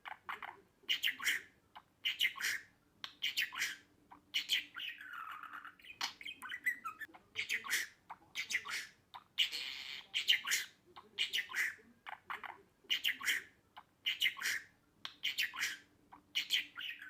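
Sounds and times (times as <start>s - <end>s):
budgerigar chattering: 0.0s - 17.0s.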